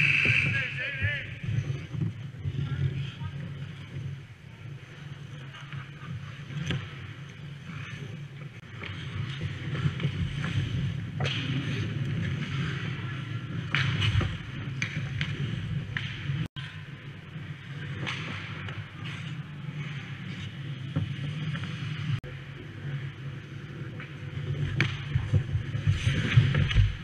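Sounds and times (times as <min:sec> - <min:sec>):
ice skates scraping on ice: 0:00.0 - 0:16.5, 0:17.2 - 0:27.0.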